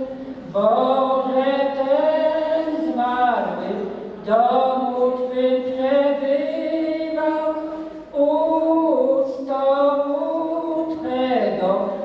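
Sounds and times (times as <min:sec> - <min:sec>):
elderly man singing a hymn: 0:00.0 - 0:12.0.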